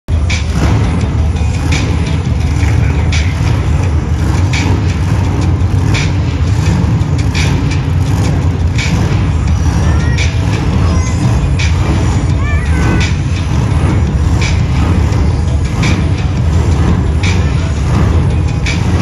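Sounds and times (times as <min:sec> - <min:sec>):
monster truck engine rumbling: 0:00.0 - 0:19.0.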